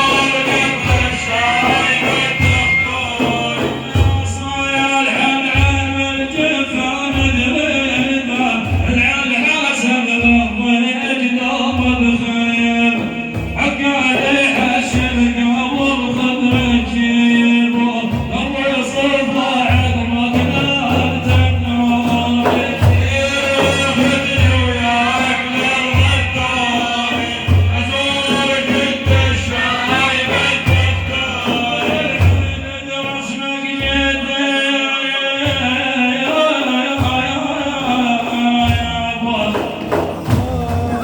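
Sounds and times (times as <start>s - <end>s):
low drumbeat: 0.0s - 34.6s, 35.4s - 41.0s
man singing: 0.0s - 41.0s.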